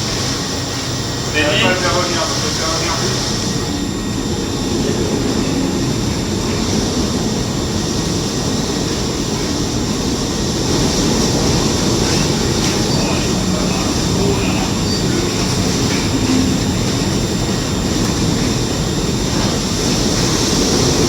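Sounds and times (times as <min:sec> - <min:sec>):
rough sea: 0:00.0 - 0:21.0
strong storm wind: 0:00.0 - 0:21.0.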